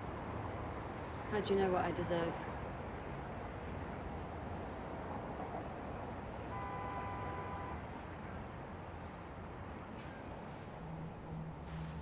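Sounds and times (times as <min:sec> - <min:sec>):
distant city traffic hum: 0:00.0 - 0:12.0.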